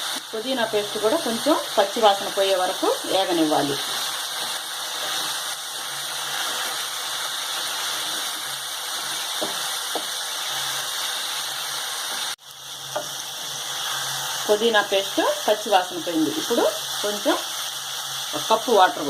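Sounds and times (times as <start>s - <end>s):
paste sizzling in oil: 0.0s - 19.0s.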